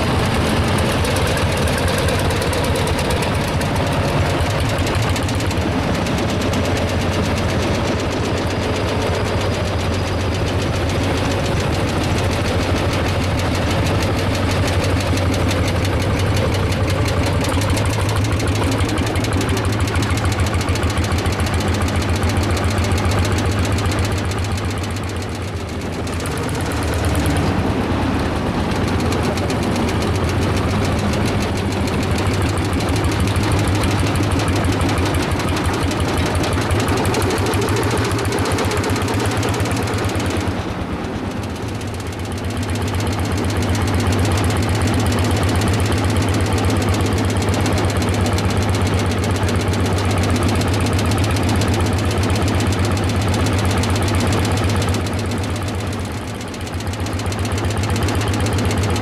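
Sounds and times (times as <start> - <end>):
tractor engine knocking: 0.0 - 59.0.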